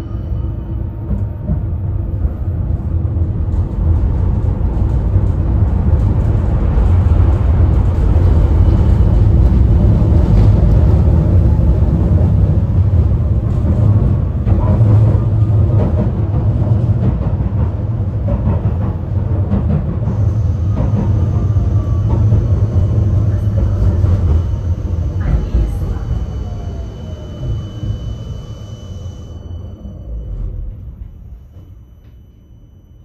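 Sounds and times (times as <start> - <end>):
tram rumbling on rails: 0.0 - 33.0.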